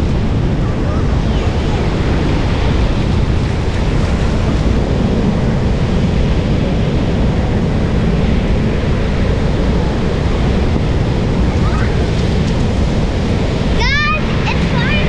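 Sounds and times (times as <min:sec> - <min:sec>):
water washing: 0:00.0 - 0:15.0
wind buffeting microphone: 0:00.0 - 0:15.0.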